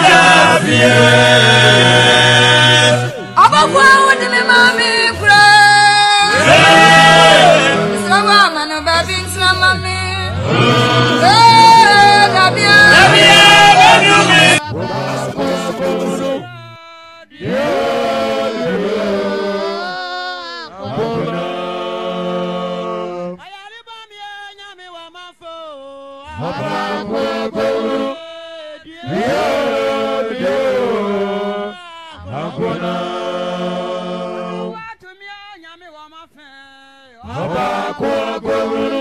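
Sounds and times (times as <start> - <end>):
person chanting: 0.0 - 39.0.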